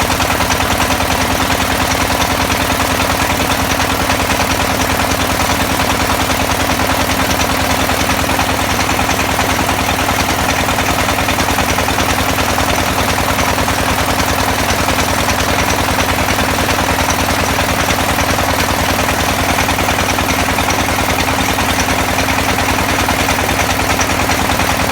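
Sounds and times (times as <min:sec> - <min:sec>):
drilling rig motor pulsing: 0:00.0 - 0:24.9.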